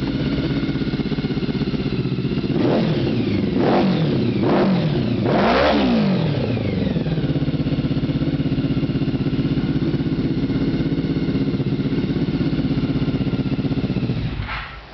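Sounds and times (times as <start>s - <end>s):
motorcycle engine idling: 0.0s - 14.4s.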